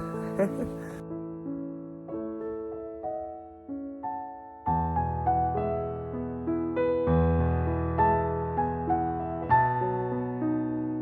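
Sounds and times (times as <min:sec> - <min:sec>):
soft slow piano music: 0:00.0 - 0:11.0.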